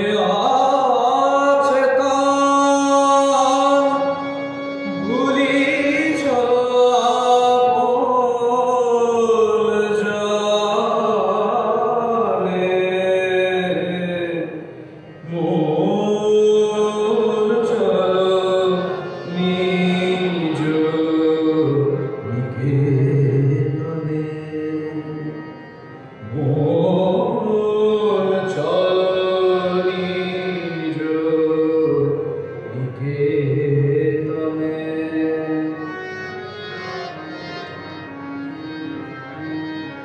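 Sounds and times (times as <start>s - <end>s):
harmonium: 0.0s - 40.0s.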